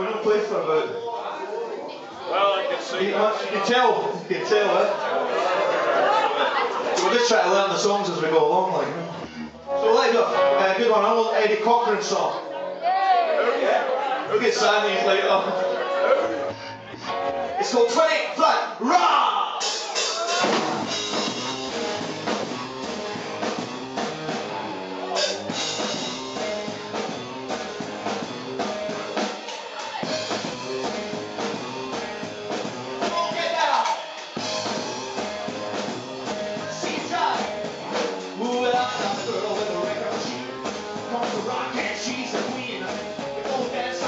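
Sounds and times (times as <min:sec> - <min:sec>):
rockabilly band playing: 0:02.0 - 0:44.0.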